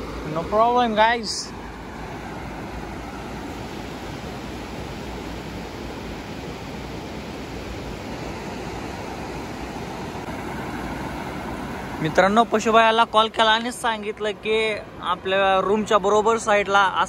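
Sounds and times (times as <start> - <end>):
sea surf rushing: 0.0 - 17.0.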